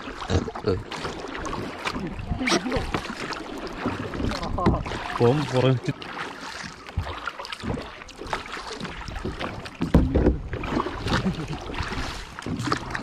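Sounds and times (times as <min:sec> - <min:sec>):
paddle strokes splashing: 0:00.0 - 0:13.0
water sloshing against kayak: 0:00.0 - 0:13.0.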